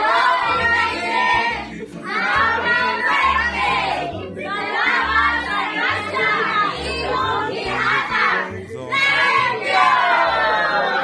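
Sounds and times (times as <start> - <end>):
crowd singing loudly: 0.0 - 11.0
music with bass line: 0.0 - 11.0.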